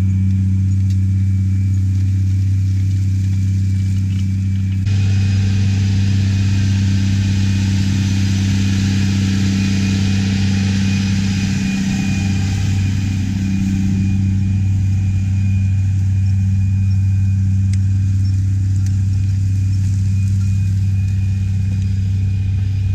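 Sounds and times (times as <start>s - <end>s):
tractor diesel engine droning: 0.0s - 22.9s.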